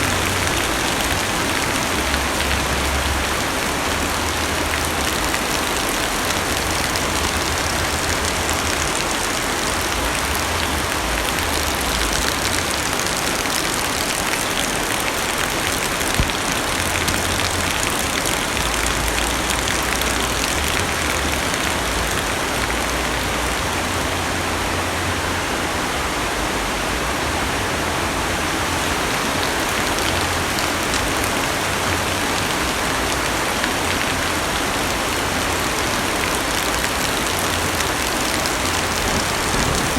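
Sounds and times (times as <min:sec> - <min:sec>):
heavy rain on car roof: 0:00.0 - 0:24.3, 0:28.4 - 0:39.9.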